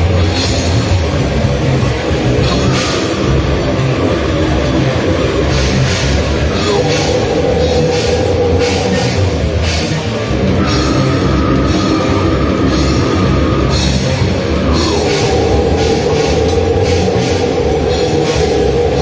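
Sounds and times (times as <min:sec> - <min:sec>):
live grindcore band playing: 0:00.0 - 0:19.0
held guitar note: 0:02.4 - 0:18.8.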